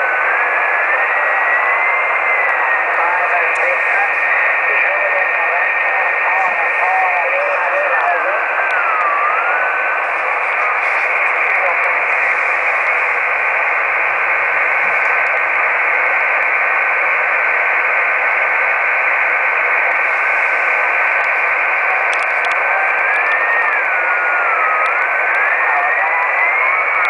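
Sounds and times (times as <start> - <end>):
radio receiver hiss: 0.0 - 27.0.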